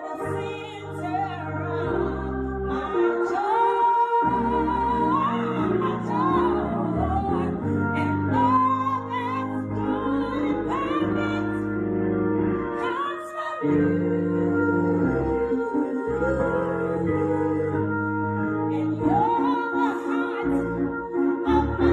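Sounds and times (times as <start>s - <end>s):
woman singing gospel song: 0.0s - 11.7s, 12.8s - 17.8s, 18.7s - 21.9s
sustained keyboard chords: 0.0s - 21.9s.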